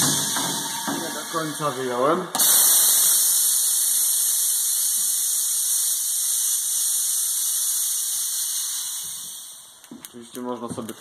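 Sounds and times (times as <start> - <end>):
compressed air hissing: 0.0 - 9.8.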